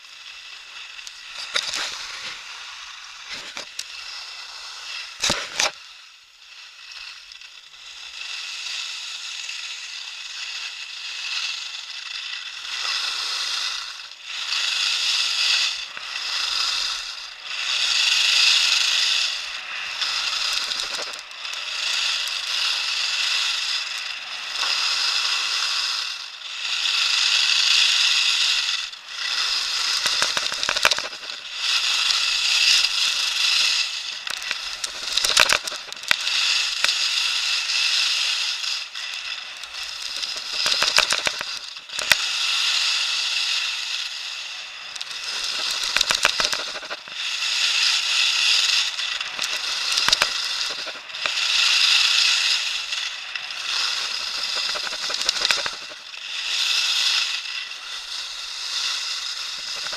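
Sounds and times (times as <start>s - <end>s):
sharp clicks and crackles: 0.2s - 5.9s, 6.5s - 8.4s, 9.6s - 59.9s
ski edges scraping snow: 0.3s - 5.8s, 9.9s - 26.1s, 26.7s - 59.9s.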